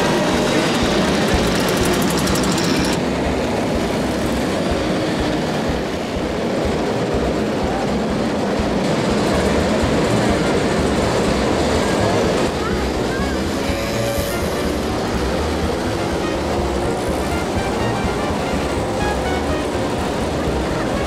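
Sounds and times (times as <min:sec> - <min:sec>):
moped engines rattling: 0:00.0 - 0:21.0.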